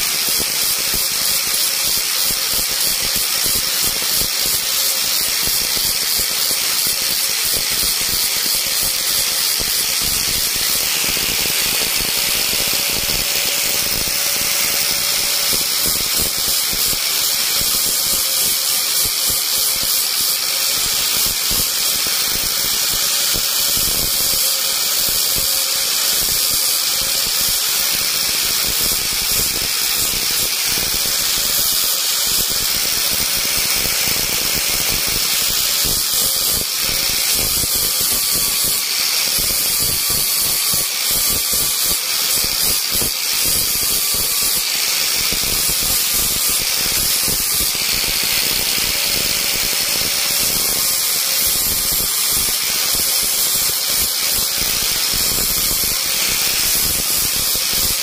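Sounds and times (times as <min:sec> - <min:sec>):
rotary tool whining on wood: 0:00.0 - 0:58.0.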